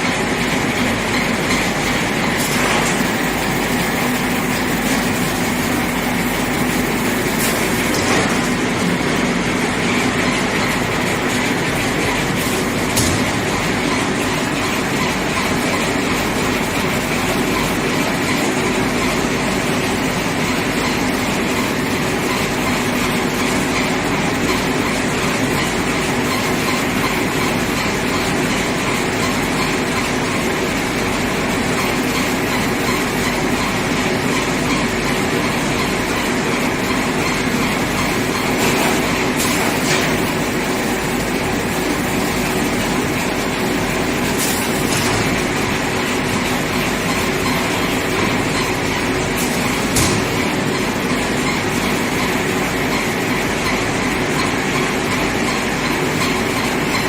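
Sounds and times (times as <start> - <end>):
machine rattling and humming: 0.0 - 57.0.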